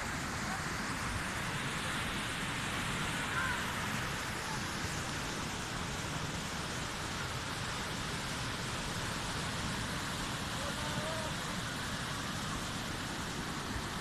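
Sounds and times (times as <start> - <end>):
flood water rushing: 0.0 - 14.0.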